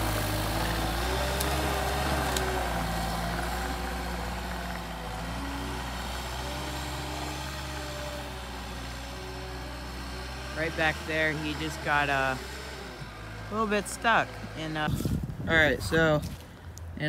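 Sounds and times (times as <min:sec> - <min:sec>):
track loader diesel engine: 0:00.0 - 0:17.0.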